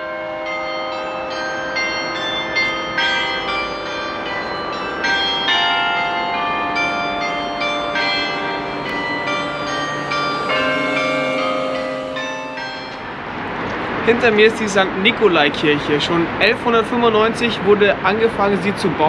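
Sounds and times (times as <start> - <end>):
church bells ringing: 0.0 - 16.8.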